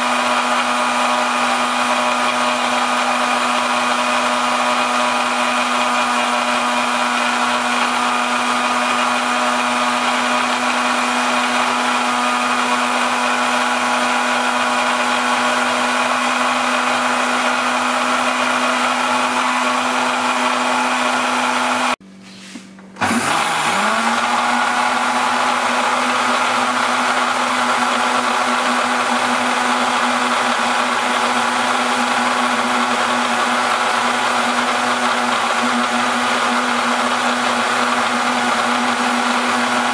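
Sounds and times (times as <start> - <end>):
blender motor running: 0.0 - 22.0, 23.0 - 39.9.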